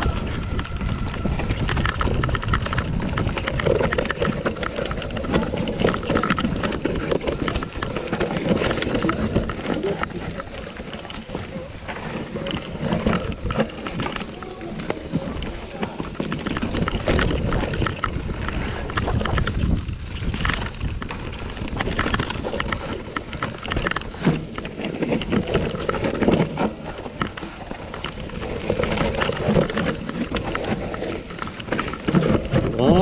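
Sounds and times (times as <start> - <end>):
bike chain and frame rattling: 0.0 - 33.0
wind buffeting microphone: 0.0 - 33.0.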